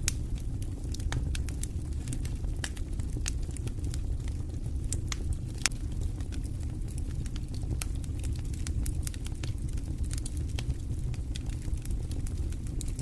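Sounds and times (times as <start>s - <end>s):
log fire crackling and popping: 0.0s - 13.0s
low fire rumble: 0.0s - 13.0s.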